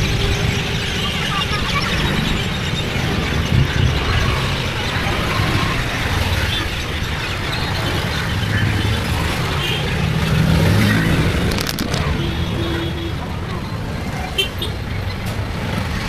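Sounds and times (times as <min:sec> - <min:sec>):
wind rush on microphone: 0:00.0 - 0:14.1
bike road noise: 0:00.0 - 0:16.0.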